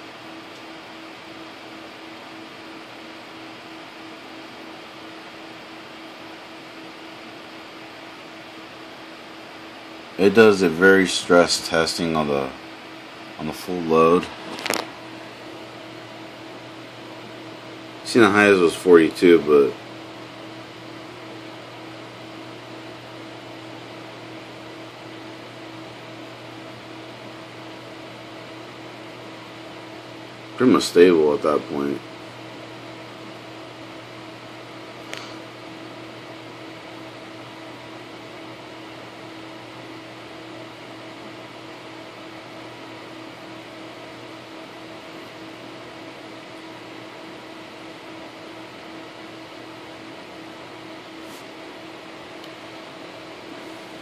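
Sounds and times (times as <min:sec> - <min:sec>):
computer fans whirring: 0:00.0 - 0:54.0.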